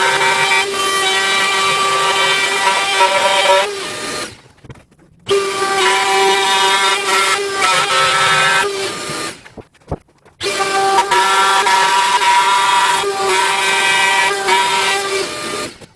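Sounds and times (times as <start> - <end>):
router high whine: 0.0 - 4.4, 5.3 - 9.5, 10.4 - 15.9.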